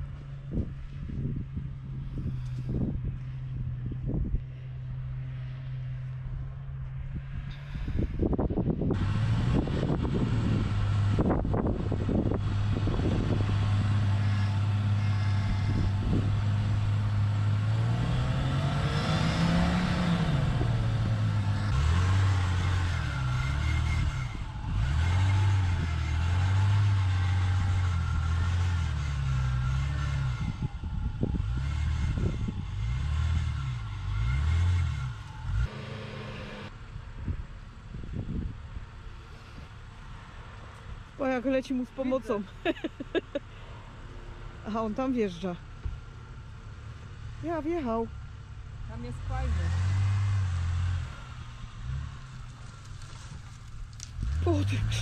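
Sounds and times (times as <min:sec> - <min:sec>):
off-road vehicle engine revving: 0:07.2 - 0:38.5, 0:39.2 - 0:55.0.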